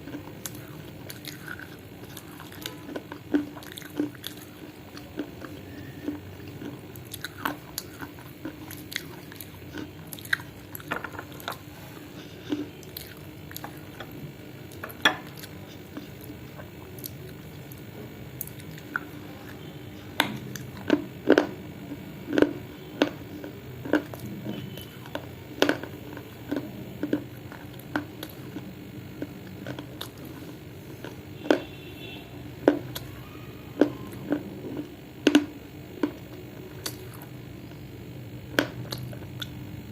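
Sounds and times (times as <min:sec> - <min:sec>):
person chewing and crunching clay: 0:00.0 - 0:39.9.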